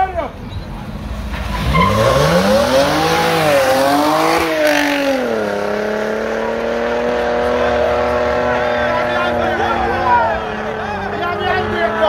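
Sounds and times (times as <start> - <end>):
car engine revving hard: 1.5 - 12.0.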